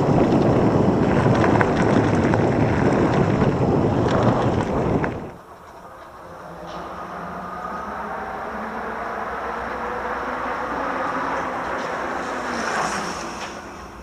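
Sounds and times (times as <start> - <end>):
electric bike rolling with hum: 0.0 - 14.0.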